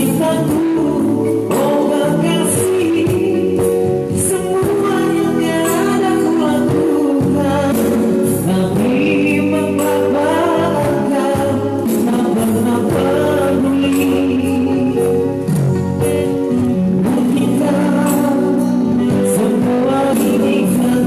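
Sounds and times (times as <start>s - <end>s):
backing chords: 0.0s - 21.0s
person singing: 0.0s - 21.0s.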